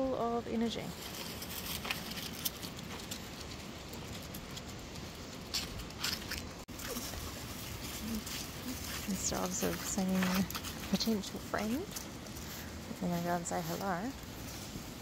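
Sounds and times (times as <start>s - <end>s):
outdoor background noise: 0.0s - 15.0s
dry leaves crunching underfoot: 0.7s - 15.0s.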